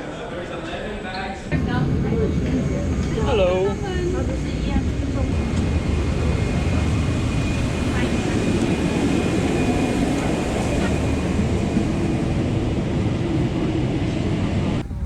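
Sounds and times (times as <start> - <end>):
airliner engine rumbling hum: 1.5 - 15.0.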